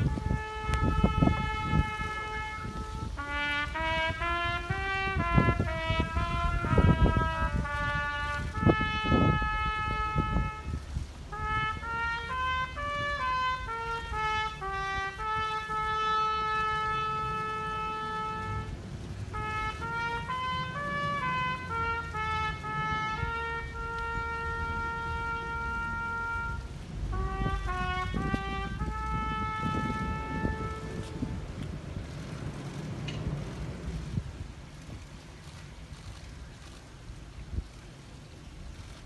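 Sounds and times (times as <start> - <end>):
slow brass melody: 0.0 - 34.2, 35.5 - 36.8.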